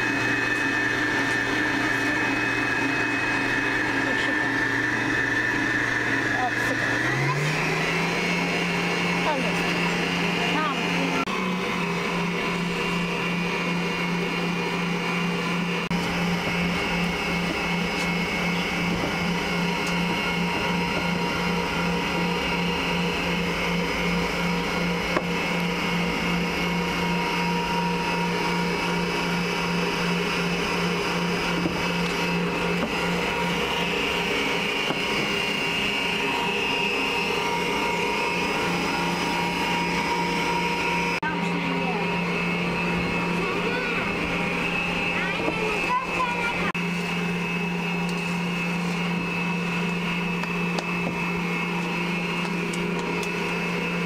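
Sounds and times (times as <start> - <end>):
stand mixer motor humming: 0.0 - 54.0.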